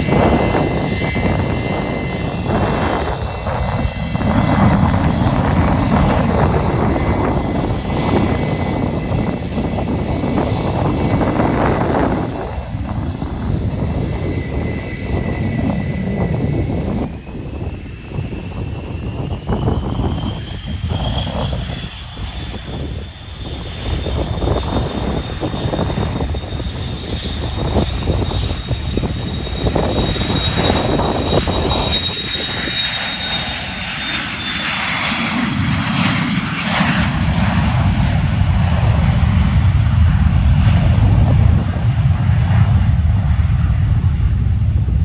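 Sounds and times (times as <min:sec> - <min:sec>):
aircraft engine whine: 0:00.0 - 0:45.0
deep aircraft rumble: 0:00.0 - 0:45.0.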